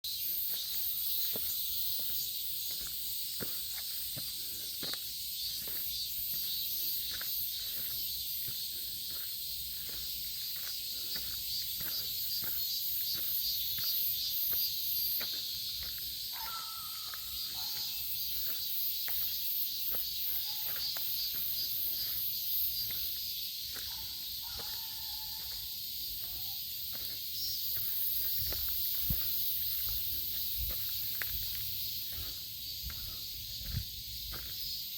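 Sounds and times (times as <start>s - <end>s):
footsteps on forest path: 0.0s - 34.9s
insects chorus: 0.0s - 34.9s.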